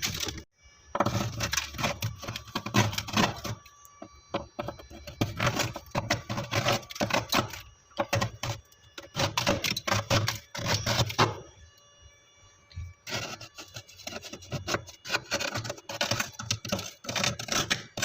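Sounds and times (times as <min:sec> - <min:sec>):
frost ice crunching: 0:00.0 - 0:11.6, 0:13.0 - 0:18.0.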